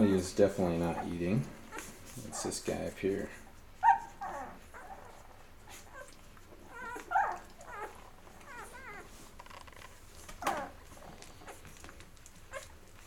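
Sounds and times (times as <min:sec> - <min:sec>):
puppies squeaking and whimpering: 0:00.0 - 0:02.6, 0:03.8 - 0:13.0.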